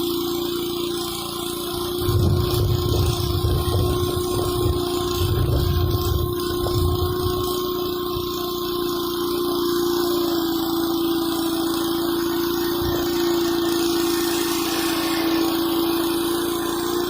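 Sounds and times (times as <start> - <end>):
pressure washer engine running: 0.0 - 17.0
water spray hissing on concrete: 0.0 - 17.0.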